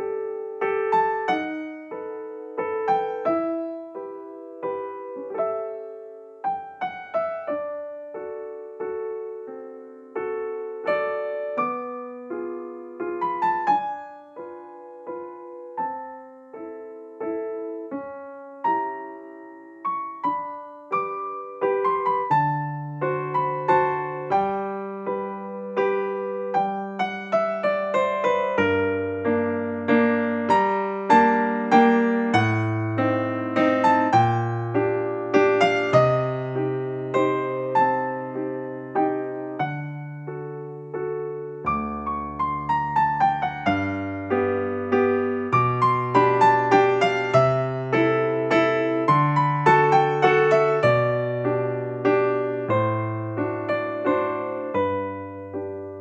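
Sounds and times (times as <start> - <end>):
soft solo piano music: 0.0 - 56.0.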